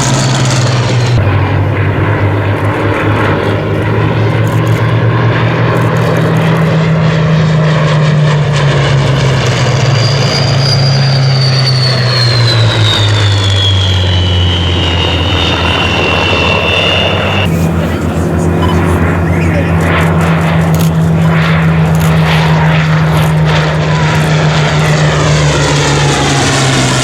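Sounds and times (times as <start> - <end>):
aircraft piston engine flying past: 0.0 - 27.0
high whine gliding down: 0.0 - 27.0.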